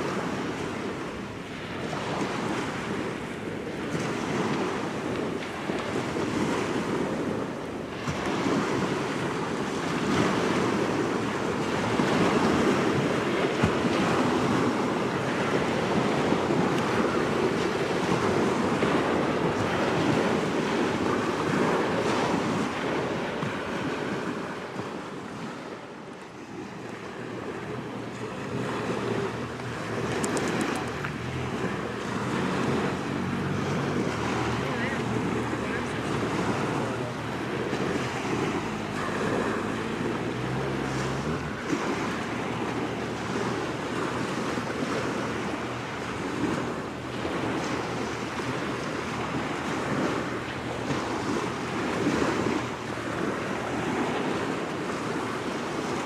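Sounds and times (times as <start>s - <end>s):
small waves washing on shore: 0.0s - 56.0s
wind buffeting microphone: 0.0s - 56.0s.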